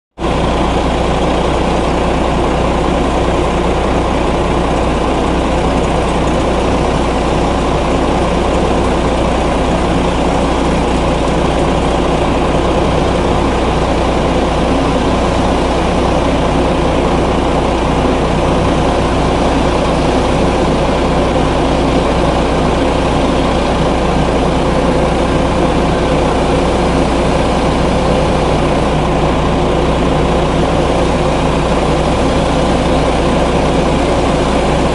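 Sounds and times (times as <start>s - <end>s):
diesel truck engines idling: 0.2s - 34.9s.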